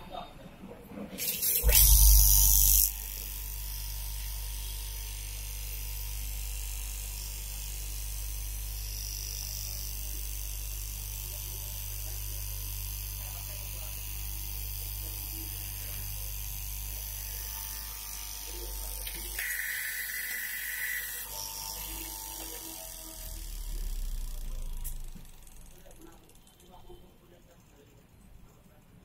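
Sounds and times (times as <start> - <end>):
cloth cutting machine humming: 1.2 - 26.9.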